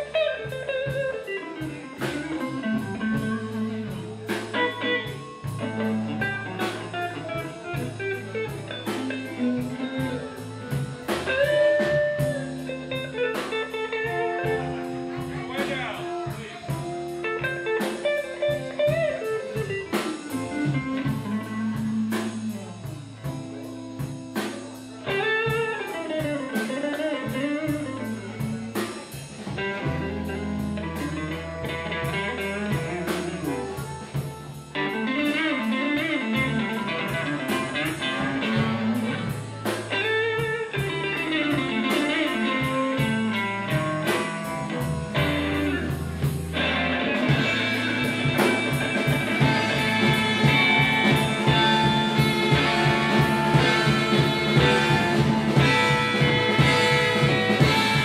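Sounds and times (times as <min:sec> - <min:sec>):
drums: 0:00.0 - 0:58.0
electric bass: 0:00.0 - 0:58.0
electric guitar lead: 0:00.0 - 0:58.0
steady cymbal beat: 0:00.0 - 0:58.0.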